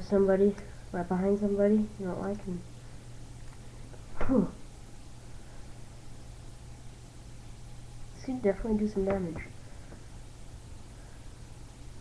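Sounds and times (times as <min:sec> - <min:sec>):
low hum: 0:00.0 - 0:12.0
microphone hiss: 0:00.0 - 0:12.0.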